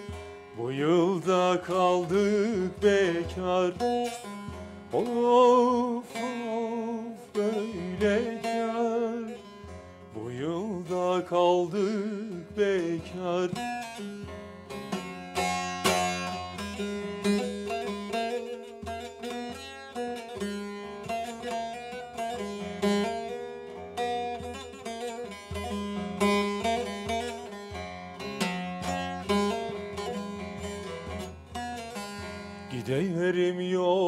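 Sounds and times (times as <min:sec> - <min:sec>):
person singing folk song: 0:00.0 - 0:19.6, 0:20.2 - 0:34.0
plucked long-necked lute: 0:00.0 - 0:34.0.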